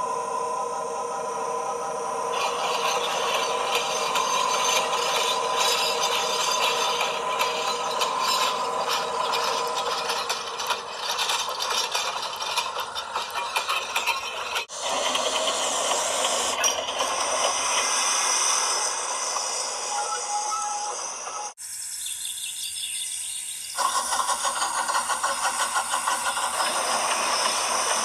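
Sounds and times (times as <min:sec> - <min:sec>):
model trolley rattling on track: 0:02.3 - 0:21.4, 0:23.8 - 0:28.0
model train wheels clattering: 0:02.3 - 0:21.5, 0:23.8 - 0:28.0.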